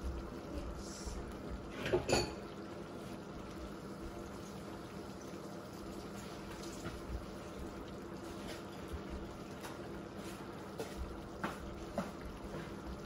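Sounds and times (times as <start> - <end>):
food simmering in a frying pan: 0.0 - 13.0.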